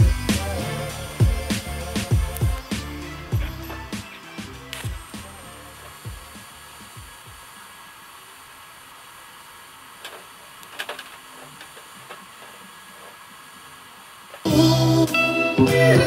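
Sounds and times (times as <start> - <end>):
welding arc hiss: 0.0 - 16.0.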